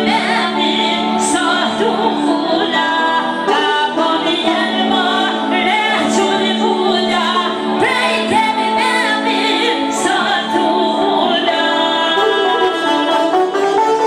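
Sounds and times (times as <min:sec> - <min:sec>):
woman singing through a microphone: 0:00.0 - 0:13.8
held backing music: 0:00.0 - 0:14.0.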